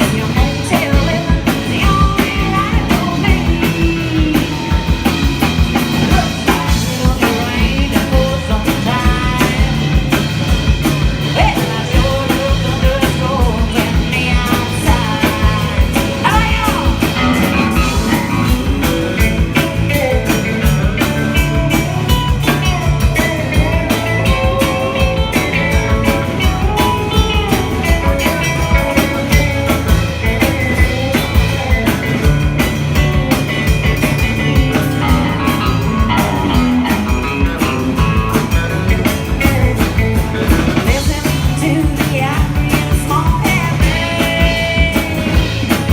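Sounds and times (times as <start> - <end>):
live band playing a song: 0.0 - 45.9.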